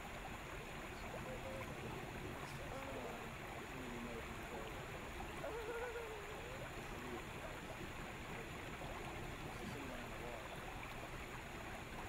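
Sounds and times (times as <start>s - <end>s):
river water rushing around boat: 0.0s - 12.0s
faint voices murmuring: 0.9s - 11.0s.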